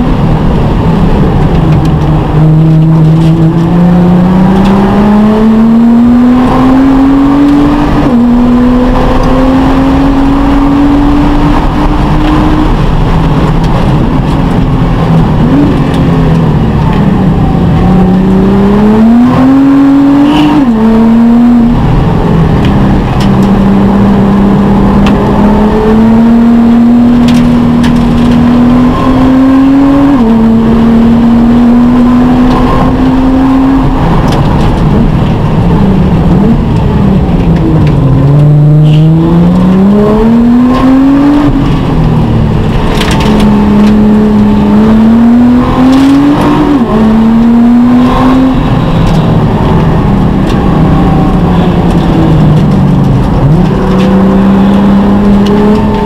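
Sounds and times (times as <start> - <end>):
car engine from inside cockpit: 0.0 - 56.0.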